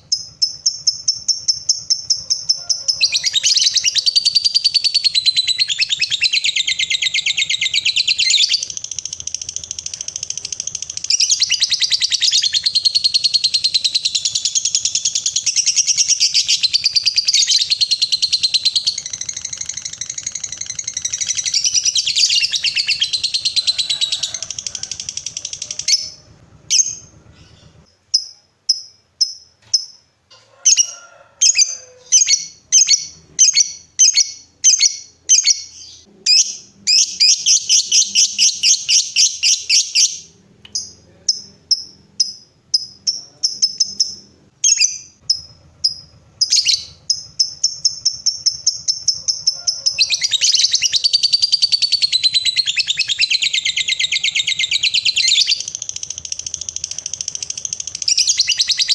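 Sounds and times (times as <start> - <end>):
bird chattering trill: 0.0 - 30.0, 30.7 - 58.9
sharp bird chirps: 0.0 - 30.1, 31.4 - 58.9.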